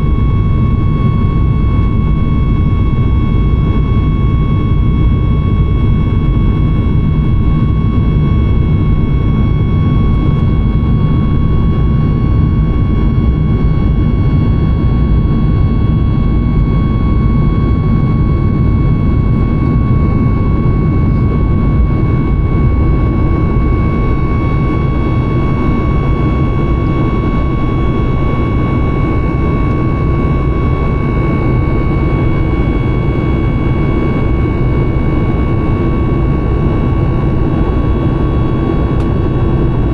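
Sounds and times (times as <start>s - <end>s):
jet engine rumble in cabin: 0.0s - 39.9s
thin engine whine: 0.0s - 39.9s.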